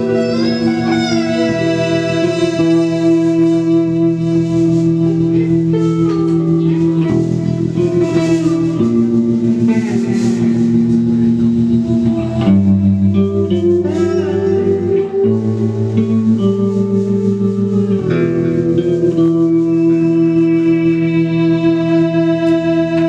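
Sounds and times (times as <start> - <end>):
electric bass notes: 0.0 - 23.0
ringing electric guitar lines: 0.0 - 23.0.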